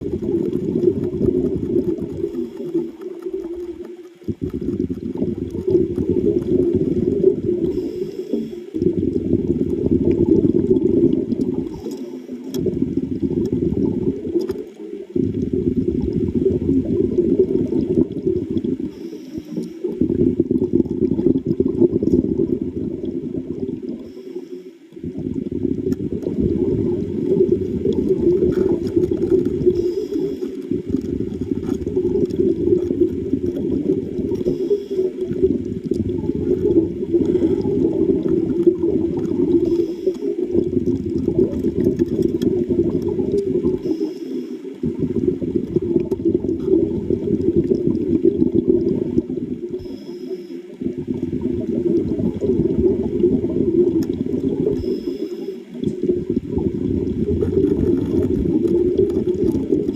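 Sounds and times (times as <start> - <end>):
underwater bubbling and rumbling: 0.0 - 59.9.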